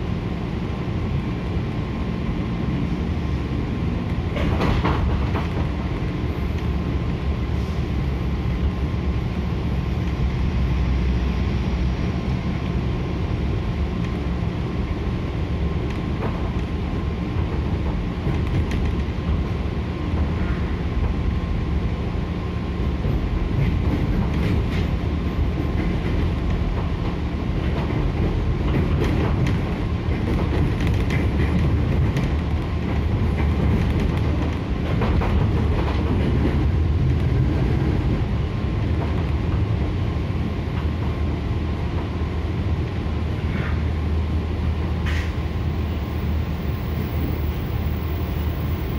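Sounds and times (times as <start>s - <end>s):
train running with low rumble: 0.0s - 48.9s.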